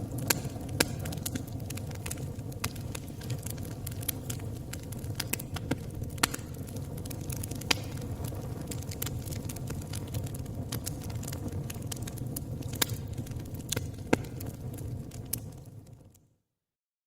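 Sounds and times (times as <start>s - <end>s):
campfire crackling and popping: 0.0s - 16.3s.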